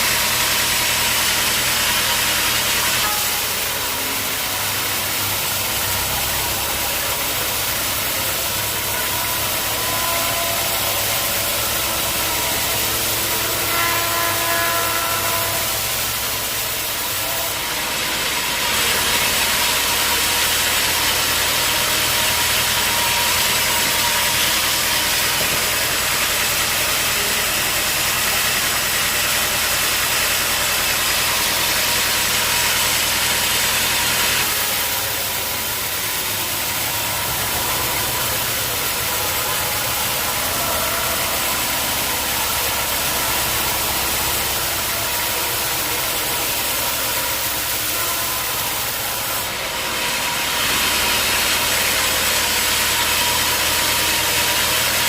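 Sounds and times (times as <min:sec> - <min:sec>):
high whine: 0:00.0 - 0:55.0
sawmill engine running: 0:00.0 - 0:55.0.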